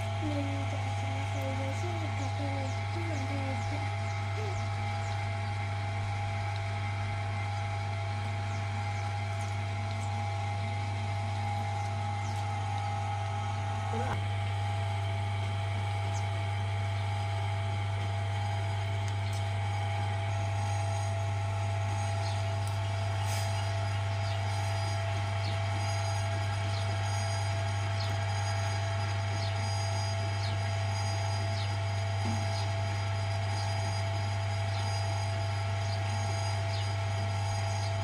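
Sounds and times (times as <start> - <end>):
potter's wheel motor humming: 0.0 - 38.0.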